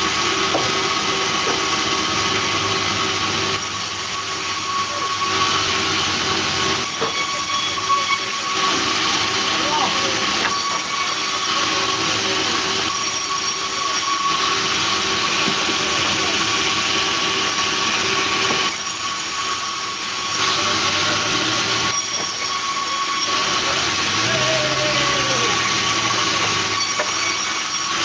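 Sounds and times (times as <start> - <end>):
sawmill saw running: 0.0 - 28.0.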